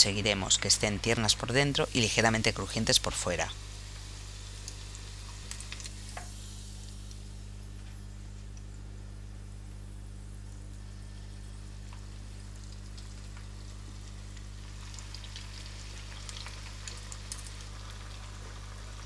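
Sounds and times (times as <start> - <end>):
potatoes sizzling in oil: 0.0 - 8.2, 9.9 - 19.0
low electrical hum: 0.0 - 19.0.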